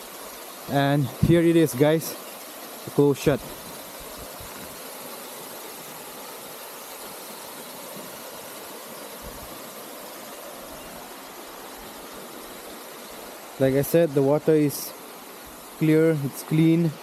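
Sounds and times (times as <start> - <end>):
small waterfall pouring into a pool: 0.0 - 17.0.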